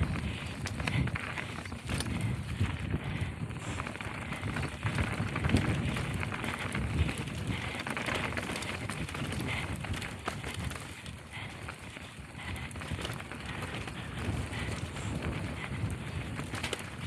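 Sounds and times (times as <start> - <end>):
bike rattling clicks: 0.0 - 17.0
wind rumble on microphone: 0.0 - 17.0.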